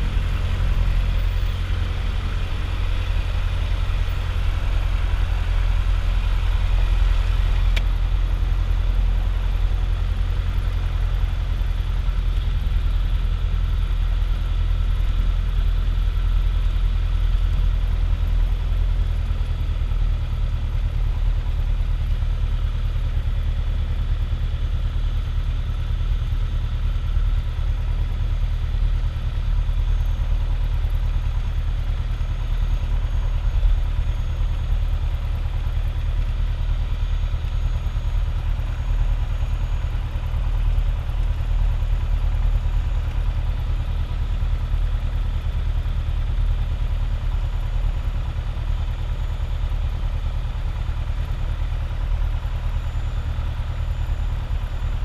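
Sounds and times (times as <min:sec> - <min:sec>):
propeller aircraft engine drone: 0:00.0 - 0:55.0.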